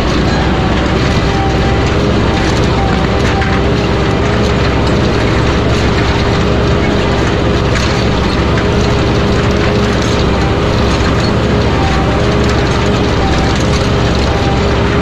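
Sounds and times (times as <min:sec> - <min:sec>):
faint plow knocks: 0:00.0 - 0:15.0
tractor engine under load: 0:00.0 - 0:15.0.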